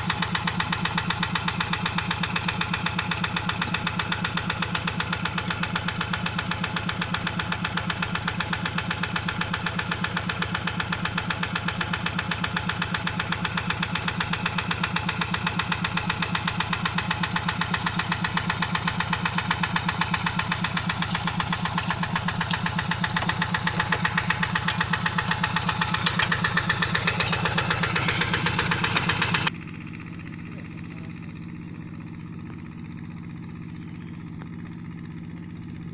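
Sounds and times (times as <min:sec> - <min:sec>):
diesel engine chugging: 0:00.0 - 0:35.9.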